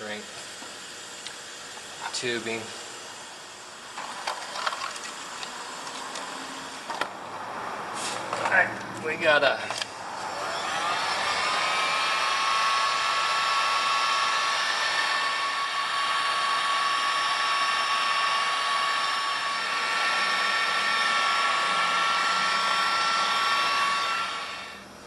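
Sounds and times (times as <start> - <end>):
heat gun blowing with whining fan: 0.0 - 7.2, 7.9 - 25.0.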